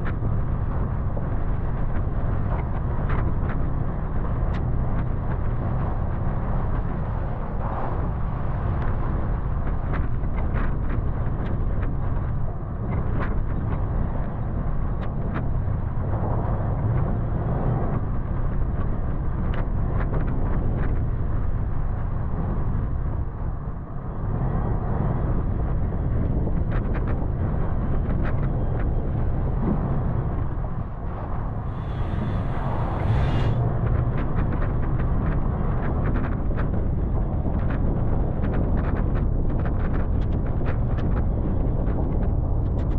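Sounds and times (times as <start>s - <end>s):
vehicle engine low rumble: 0.0s - 42.9s.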